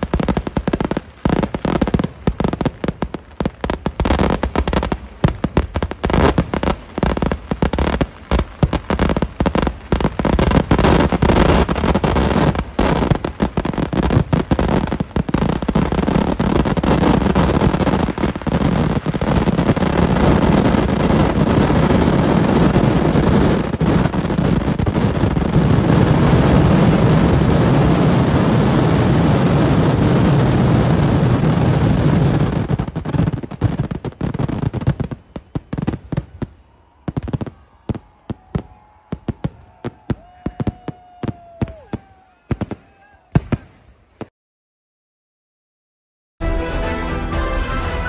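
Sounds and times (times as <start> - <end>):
fireworks bangs: 0.0 - 44.3.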